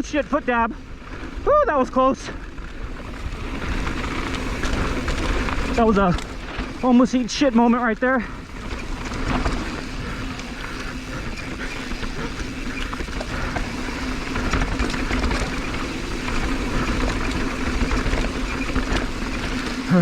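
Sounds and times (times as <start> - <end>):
bike rattling: 0.0 - 20.0
tyres rolling on rocky ground: 0.0 - 20.0.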